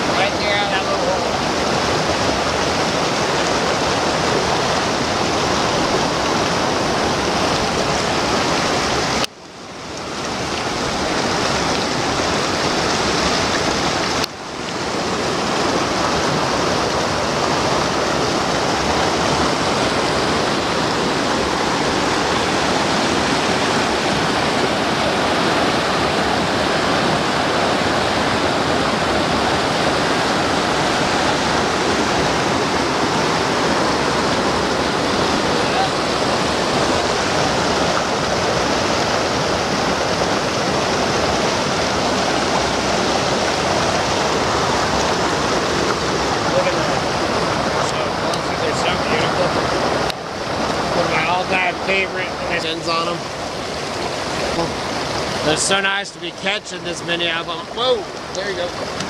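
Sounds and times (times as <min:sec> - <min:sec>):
creek rushing over boulders: 0:00.0 - 0:59.0.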